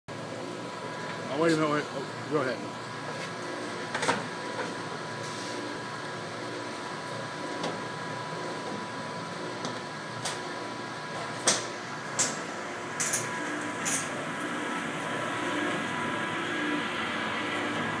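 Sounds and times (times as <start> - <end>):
crusher machine humming: 0.1 - 18.0.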